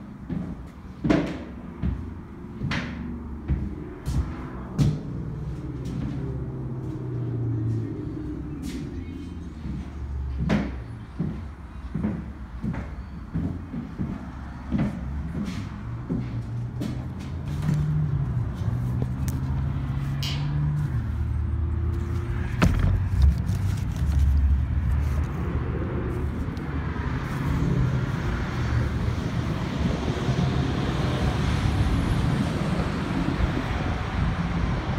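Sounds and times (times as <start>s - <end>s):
low rumble of road traffic: 0.0s - 34.9s
vehicle engine humming: 0.0s - 34.9s.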